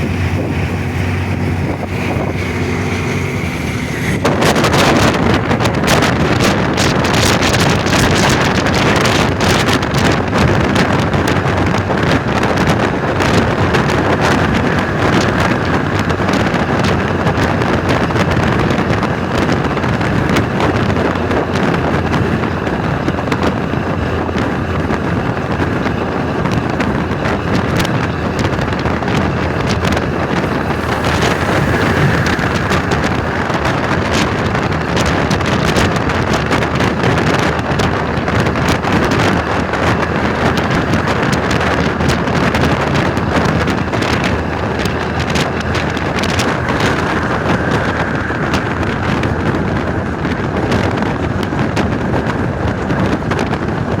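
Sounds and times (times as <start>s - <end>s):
bus diesel engine running: 0.0s - 54.0s
wind buffeting microphone: 0.0s - 54.0s.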